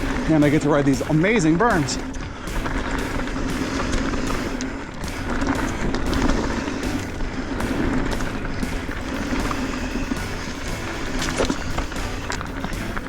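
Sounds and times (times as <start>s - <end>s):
bike clicks and rattles: 0.0s - 13.0s
bike tyres rushing on dirt: 0.0s - 13.0s.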